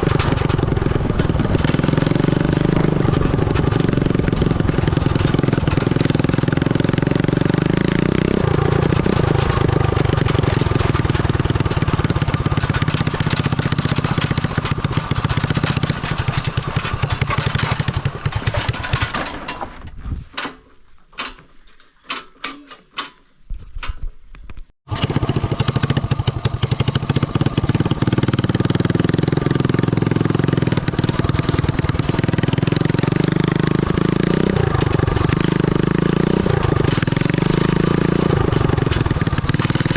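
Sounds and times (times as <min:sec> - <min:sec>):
go-kart engine running: 0:00.0 - 0:19.5, 0:24.9 - 0:39.9.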